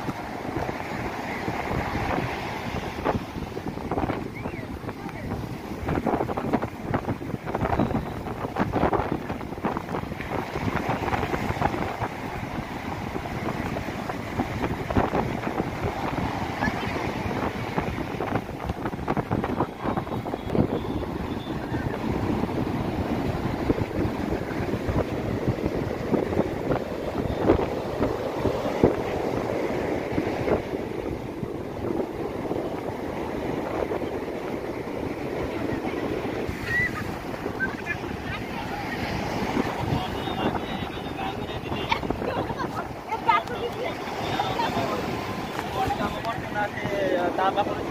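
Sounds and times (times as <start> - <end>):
surf breaking on beach: 0.0 - 47.9
wind buffeting microphone: 0.0 - 47.9.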